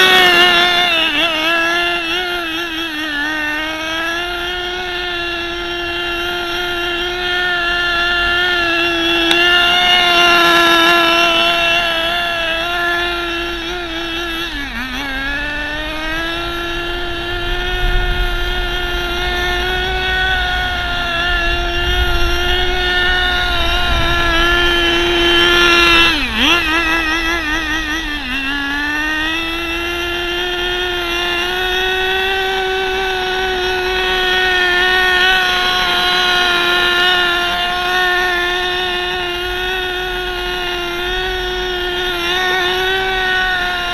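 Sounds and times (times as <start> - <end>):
model car engine buzzing: 0.0 - 43.9.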